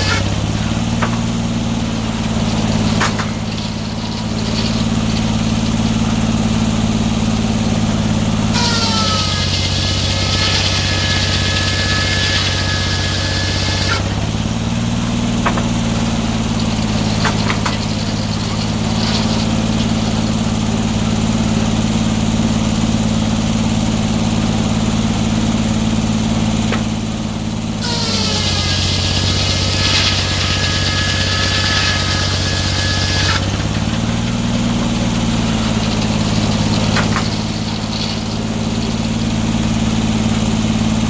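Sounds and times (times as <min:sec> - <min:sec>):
saw blade cutting log: 0:00.0 - 0:22.1, 0:25.8 - 0:41.0
sawmill engine running: 0:00.0 - 0:41.0.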